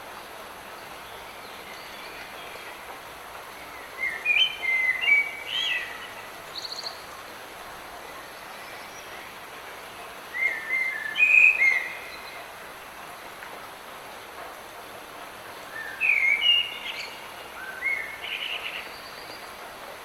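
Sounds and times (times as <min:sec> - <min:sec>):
light rain hissing: 0:00.0 - 0:20.0.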